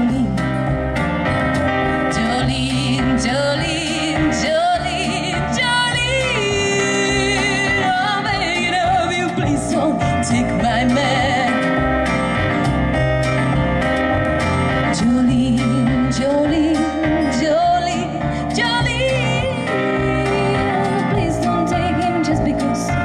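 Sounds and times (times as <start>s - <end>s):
woman singing through a microphone: 0.0s - 0.8s, 2.0s - 11.9s, 14.9s - 23.0s
musical accompaniment: 0.0s - 23.0s.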